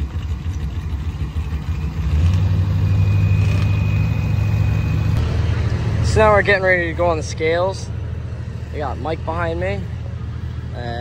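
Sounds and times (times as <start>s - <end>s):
diesel truck engine running: 0.0s - 11.0s
thin high whine: 1.7s - 11.0s.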